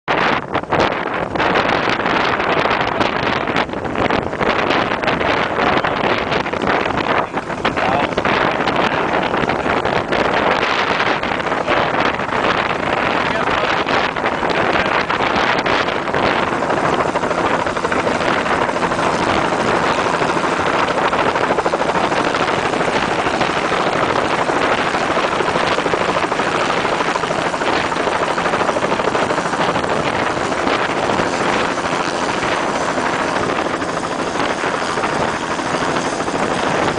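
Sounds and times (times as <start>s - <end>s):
air and water rushing: 0.1s - 36.9s
boat engine droning: 0.1s - 36.9s.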